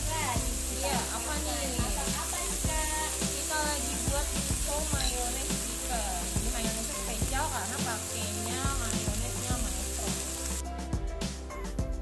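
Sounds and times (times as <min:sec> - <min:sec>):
chicken sizzling in a frying pan: 0:00.0 - 0:10.6
background music: 0:00.0 - 0:12.0.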